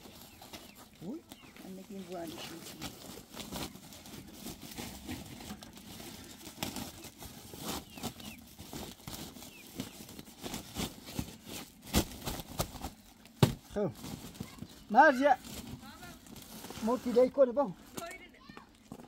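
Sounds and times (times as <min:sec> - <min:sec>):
plastic sack rustling: 0:00.0 - 0:19.0.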